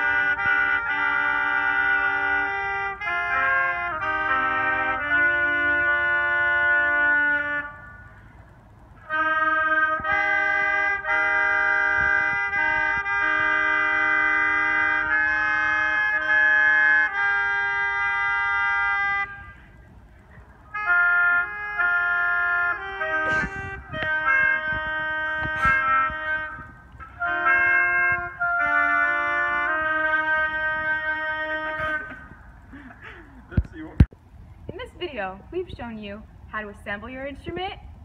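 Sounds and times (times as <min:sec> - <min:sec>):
oboes playing in harmony: 0:00.0 - 0:34.1.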